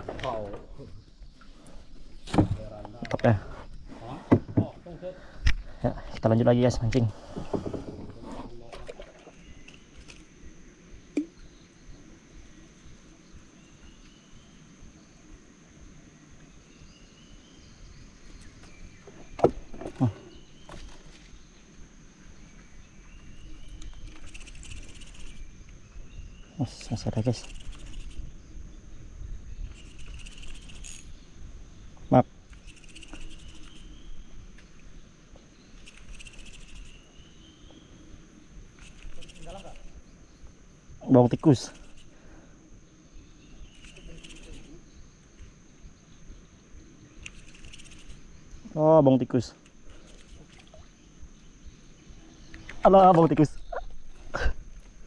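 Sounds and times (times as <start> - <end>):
high-pitched insect drone: 9.4 - 55.0.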